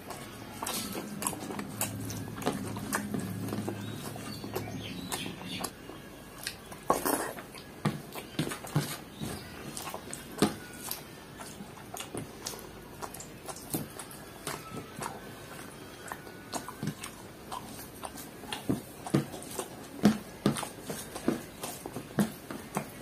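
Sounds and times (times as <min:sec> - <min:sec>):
chewing and mouth smacks: 0:00.0 - 0:23.0
fingers mixing food on paper plate: 0:00.0 - 0:23.0.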